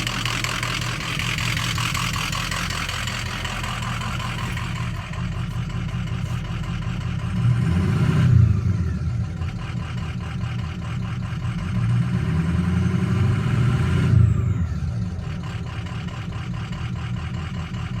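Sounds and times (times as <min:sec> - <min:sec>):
diesel engine rough idle: 0:00.0 - 0:18.0.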